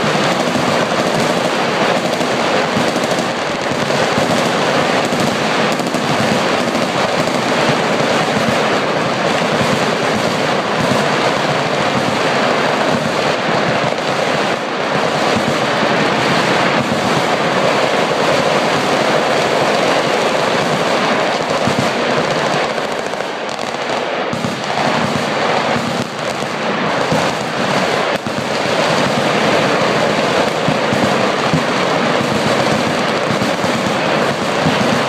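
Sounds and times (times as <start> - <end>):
machine guns firing: 0.0 - 35.0.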